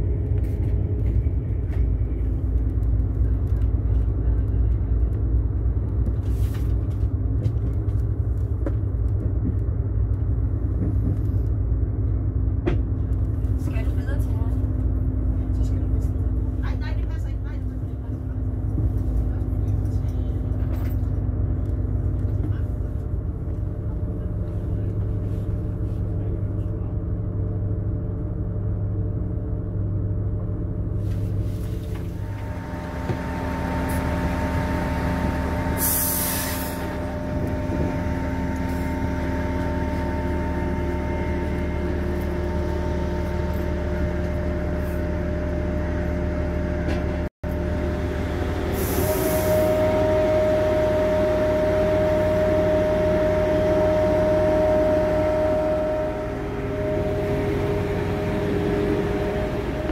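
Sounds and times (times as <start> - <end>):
train rumble with humming tones: 0.0 - 59.9.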